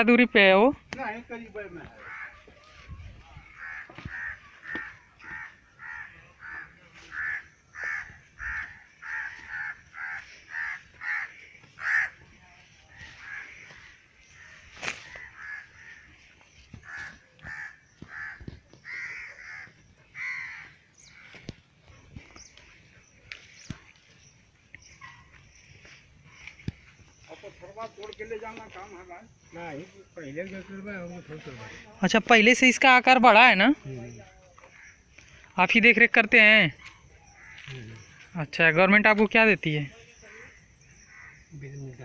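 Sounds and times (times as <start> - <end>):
bird harsh calls: 1.8 - 32.0, 34.0 - 35.6, 36.7 - 38.4, 39.8 - 42.0.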